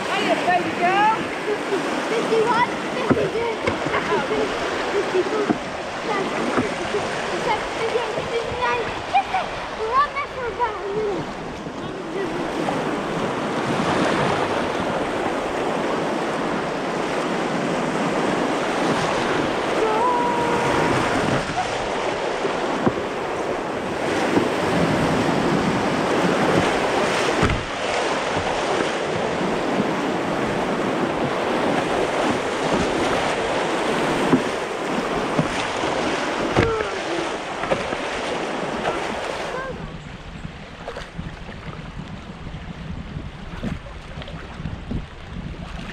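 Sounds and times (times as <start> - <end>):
river whitewater rushing: 0.0 - 39.8
wind buffeting microphone: 0.0 - 45.9.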